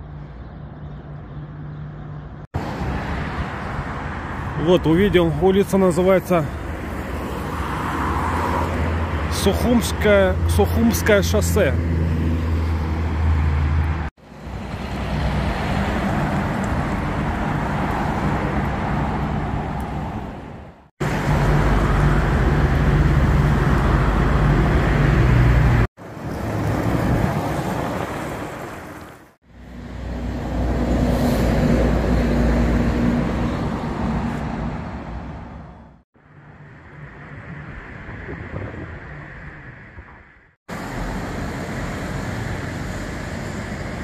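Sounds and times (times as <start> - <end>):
highway traffic passing: 0.0 - 44.0.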